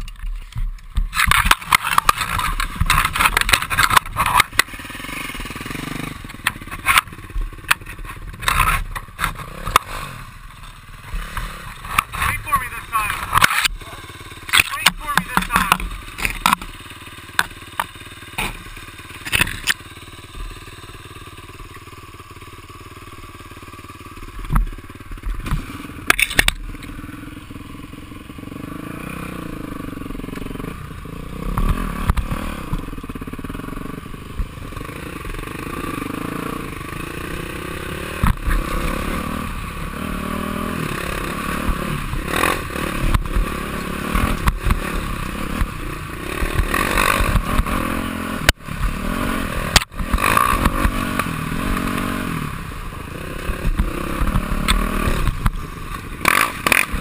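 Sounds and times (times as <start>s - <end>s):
dirt bike engine revving: 1.0s - 57.0s.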